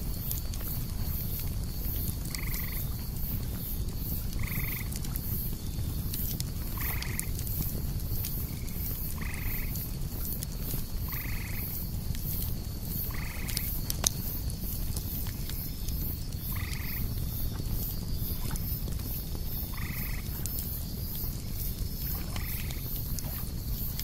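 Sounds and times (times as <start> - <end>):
campfire crackling and popping: 0.0 - 24.0
cicada drone: 0.0 - 24.0.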